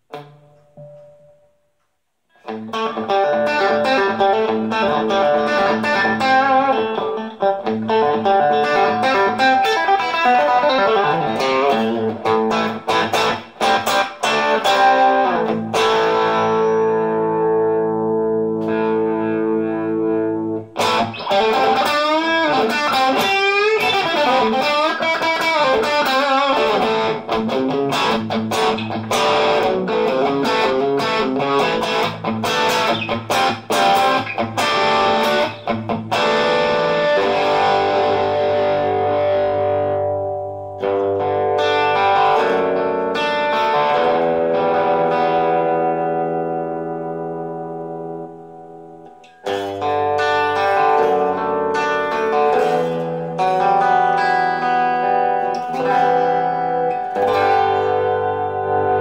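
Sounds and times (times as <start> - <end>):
electric guitar playing: 0.0 - 1.6, 2.3 - 59.0.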